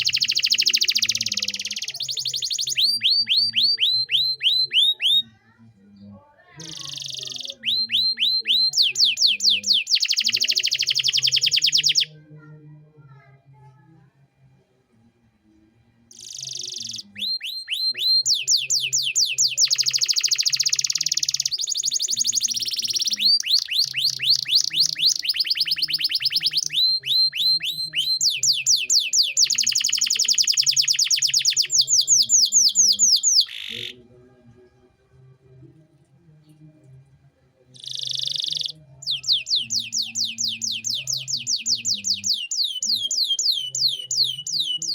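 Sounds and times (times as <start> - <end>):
canary singing trills: 0.0 - 5.3, 6.5 - 12.1, 16.1 - 34.1, 37.8 - 44.9.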